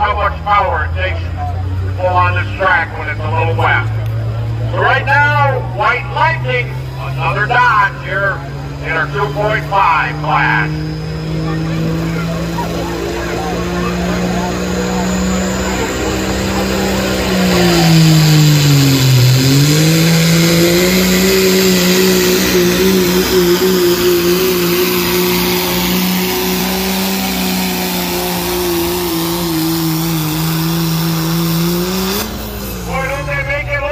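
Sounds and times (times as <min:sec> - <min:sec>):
diesel truck engine at full throttle: 0:00.0 - 0:33.9.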